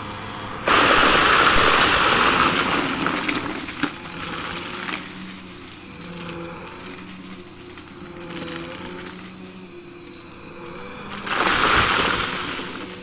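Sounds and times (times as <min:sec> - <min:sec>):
vacuum motor humming: 0:00.0 - 0:13.0
vacuum sucking crackling grit: 0:00.4 - 0:13.0.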